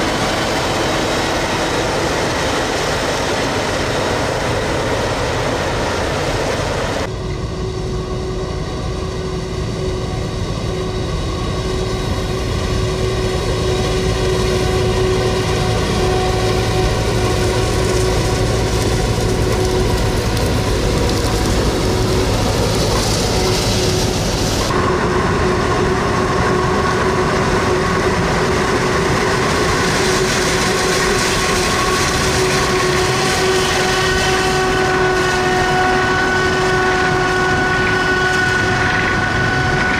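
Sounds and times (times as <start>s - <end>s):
forage harvester droning: 0.0s - 39.9s.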